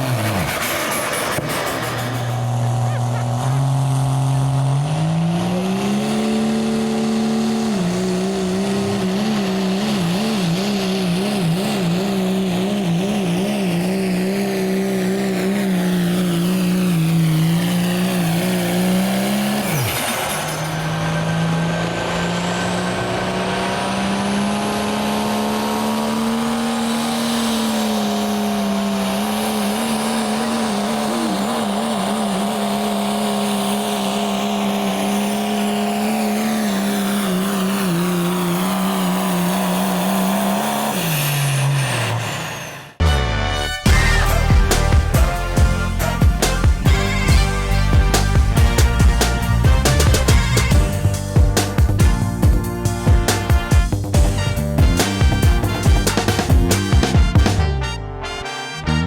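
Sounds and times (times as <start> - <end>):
diesel engine at high revs: 0.0 - 58.0.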